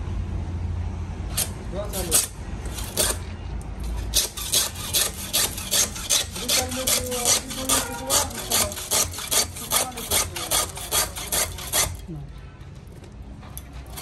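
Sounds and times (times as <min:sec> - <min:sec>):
hand tool rasping on tyre: 0:01.3 - 0:12.1, 0:13.6 - 0:14.0.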